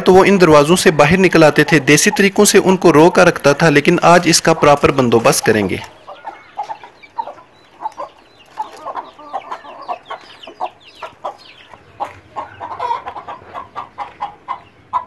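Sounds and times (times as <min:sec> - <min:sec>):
chickens clucking: 0:00.0 - 0:15.0
chicks peeping: 0:00.0 - 0:15.0.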